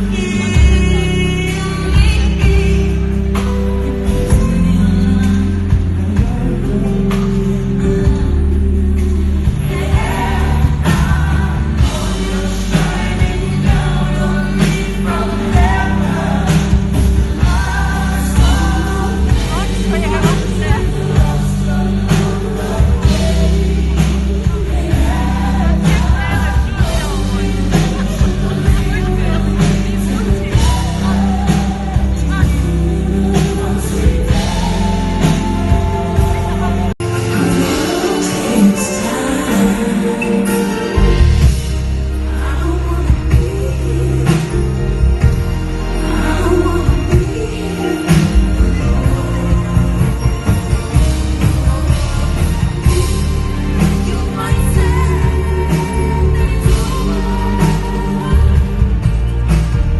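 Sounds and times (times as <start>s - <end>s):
woman singing: 0.0s - 59.3s
band with heavy bass: 0.0s - 59.9s.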